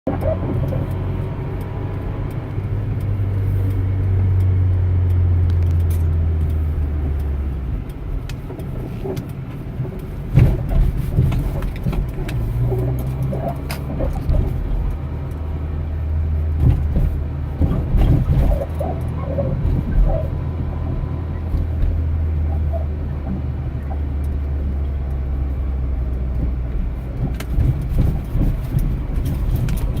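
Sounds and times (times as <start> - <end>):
car engine rumbling: 0.0 - 30.0
engine knocks and clicks: 0.0 - 30.0.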